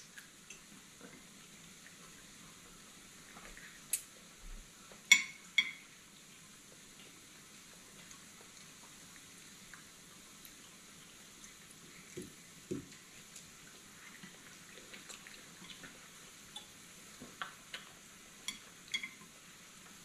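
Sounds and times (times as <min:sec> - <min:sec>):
pan bubbling and sizzling: 0:00.0 - 0:20.0.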